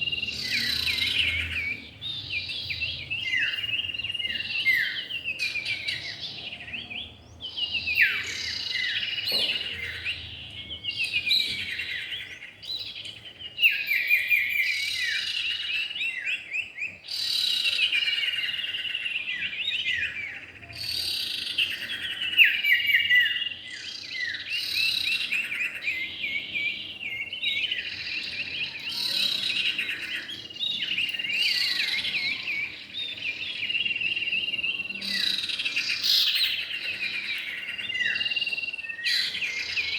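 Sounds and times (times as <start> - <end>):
bird song with chattering notes: 0.0 - 39.9.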